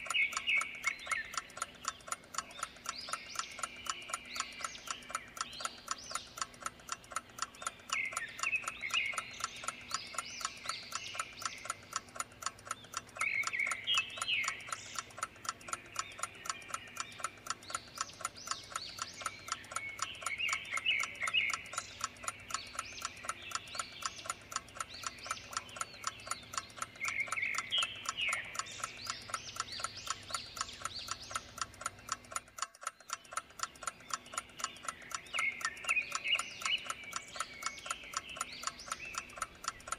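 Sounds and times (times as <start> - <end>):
clock ticking: 0.0 - 39.9
high chirping: 0.0 - 39.9.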